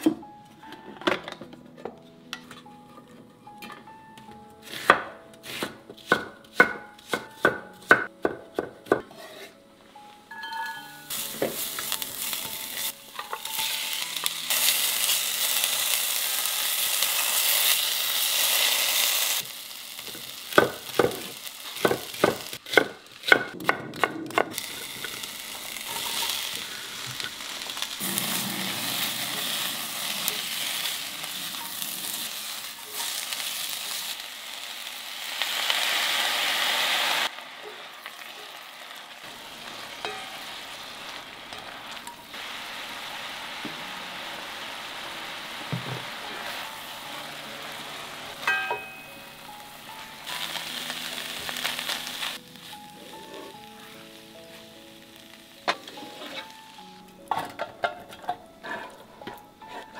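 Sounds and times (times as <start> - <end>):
onion sizzling in a pan: 4.6 - 8.1, 9.1 - 58.0
wooden spatulas stir-frying: 11.1 - 59.9.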